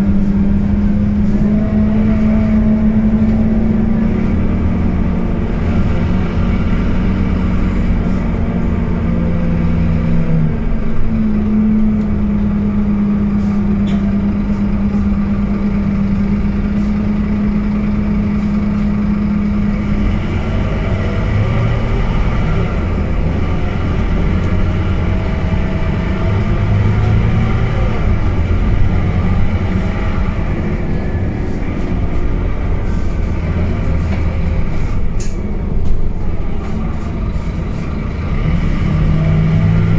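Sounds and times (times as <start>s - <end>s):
bus engine drone: 0.0s - 39.9s
engine whine: 0.0s - 39.9s
road noise: 0.0s - 39.9s.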